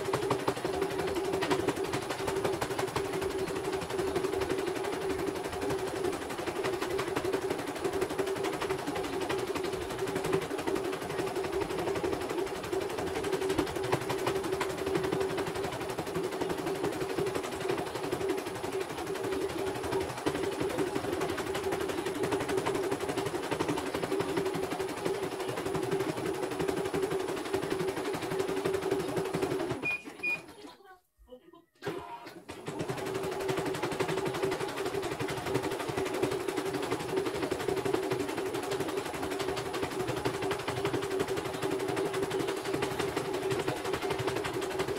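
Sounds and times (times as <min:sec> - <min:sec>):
machine hum: 0:00.0 - 0:30.6, 0:31.8 - 0:44.9.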